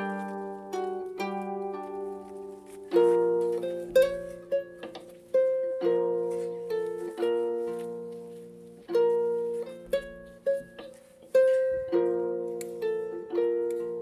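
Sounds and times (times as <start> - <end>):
harp music: 0.0 - 14.0.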